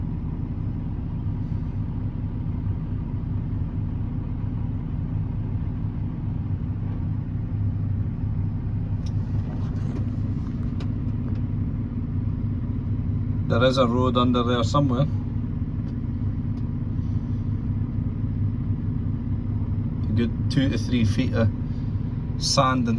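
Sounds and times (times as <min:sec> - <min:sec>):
tractor engine rumbling: 0:00.0 - 0:22.9.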